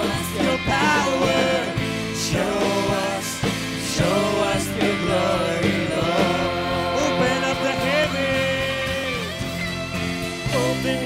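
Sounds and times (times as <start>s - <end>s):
band playing worship music: 0.0s - 11.0s
wordless sung vocal: 0.0s - 11.0s.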